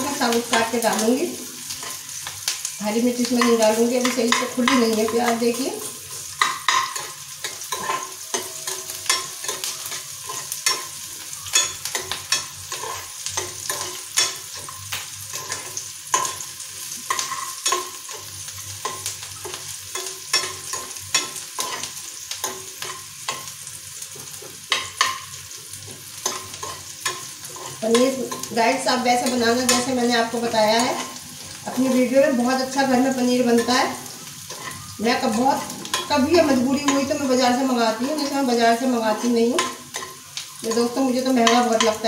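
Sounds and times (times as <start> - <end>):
onions sizzling in oil: 0.0 - 42.0
metal spatula scraping a pan: 3.2 - 42.0.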